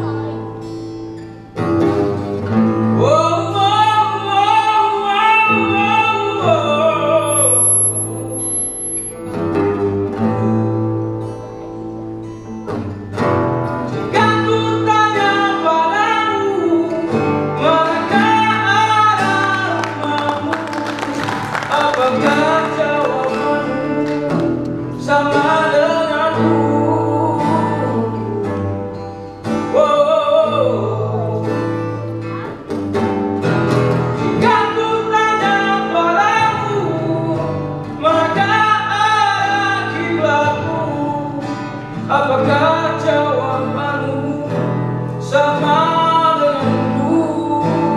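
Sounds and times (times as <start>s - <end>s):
acoustic guitars: 0.0s - 47.9s
person singing: 2.9s - 9.2s, 13.9s - 32.6s, 34.2s - 47.9s.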